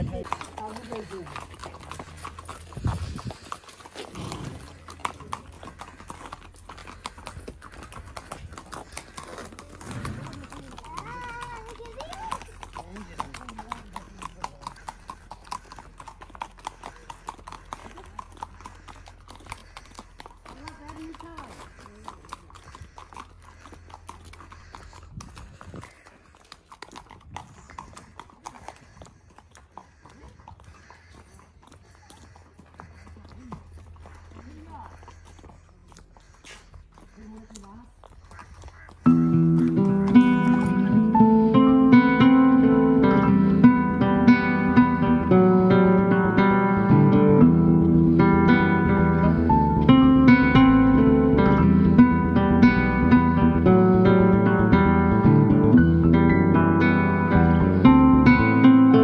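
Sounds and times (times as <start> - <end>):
horse hooves clip-clopping on pavement: 0.0 - 59.0.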